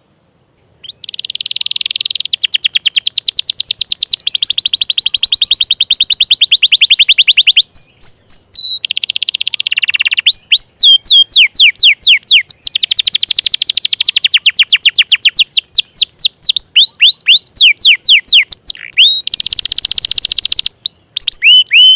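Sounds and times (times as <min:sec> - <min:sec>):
canary singing: 0:00.8 - 0:21.9.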